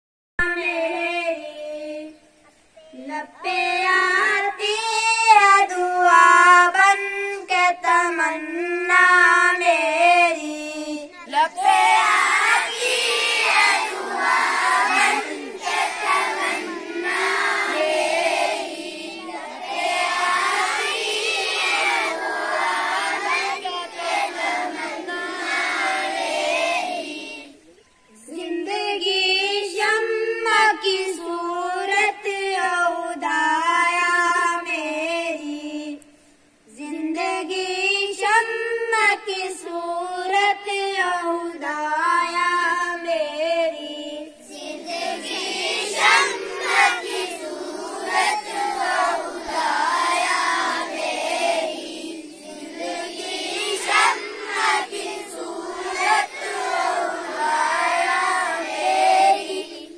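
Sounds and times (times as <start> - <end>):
children singing together: 0.6 - 32.5, 42.2 - 59.9.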